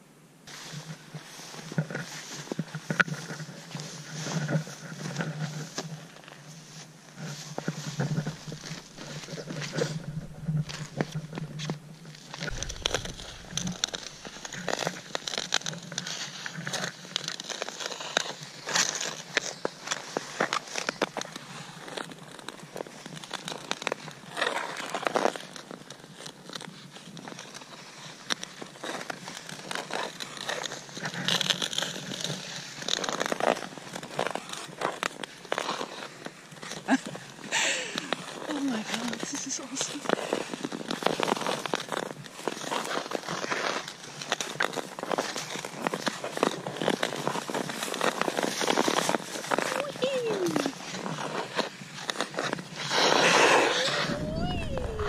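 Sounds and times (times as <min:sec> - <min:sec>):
ice skates scraping on ice: 0:00.5 - 0:55.0.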